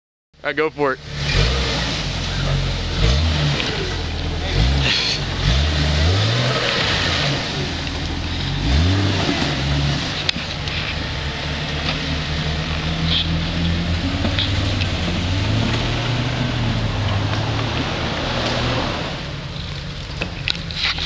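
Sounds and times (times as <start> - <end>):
truck engine working under load: 1.0 - 21.0.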